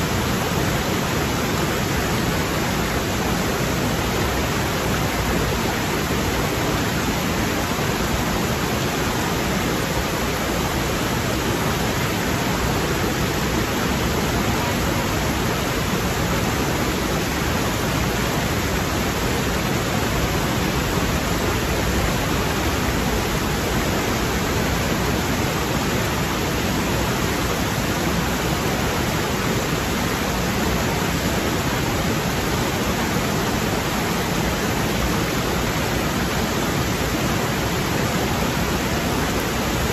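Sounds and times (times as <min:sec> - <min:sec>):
mountain stream rushing over rocks: 0:00.0 - 0:39.9.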